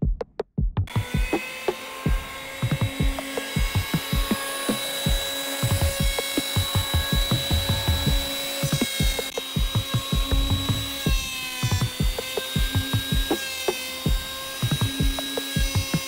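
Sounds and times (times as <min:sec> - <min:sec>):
electric planer shaving wood: 0:00.9 - 0:16.0.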